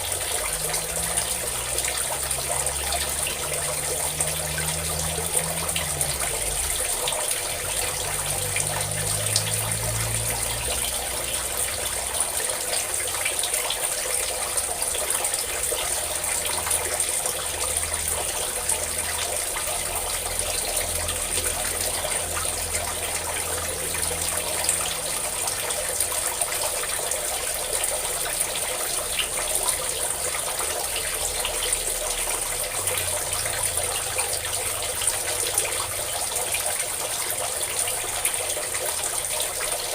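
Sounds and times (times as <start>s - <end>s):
pouring splashing water: 0.0s - 39.9s.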